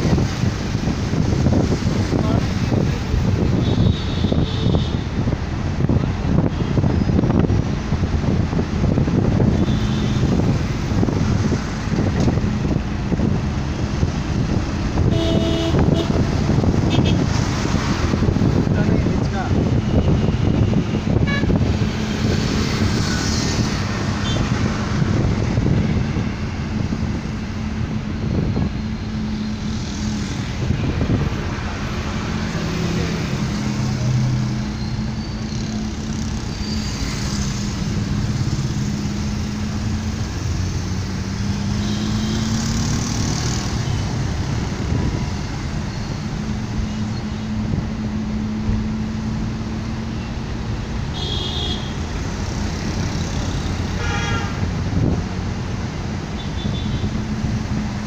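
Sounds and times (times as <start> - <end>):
road noise: 0.0 - 58.0
surrounding traffic: 0.0 - 58.0
vehicle engine drone: 0.0 - 58.0.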